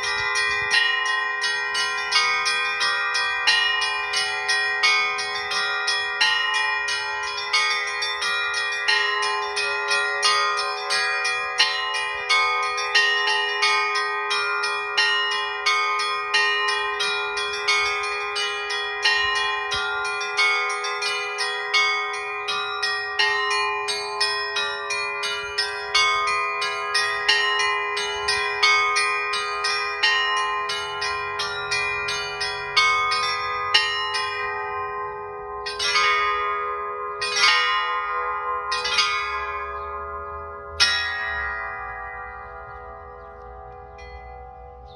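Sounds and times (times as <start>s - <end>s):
deep bell ringing tone: 0.0s - 44.9s.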